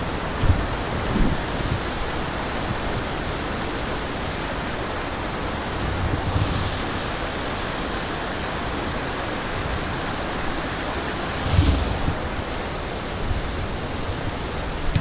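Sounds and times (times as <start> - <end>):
stream water rushing: 0.0 - 15.0
wind buffeting microphone: 0.0 - 15.0.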